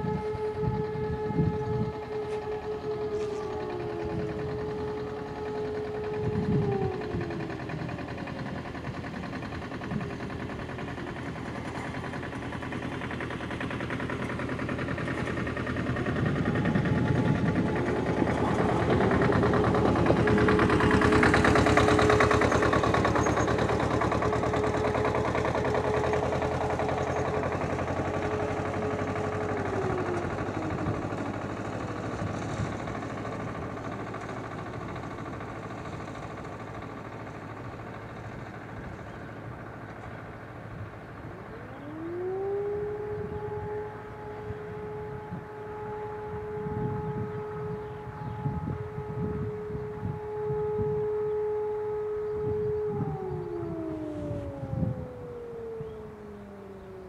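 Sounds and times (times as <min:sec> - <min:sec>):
distant siren wailing: 0:00.0 - 0:57.0
tractor engine passing: 0:00.0 - 0:57.0.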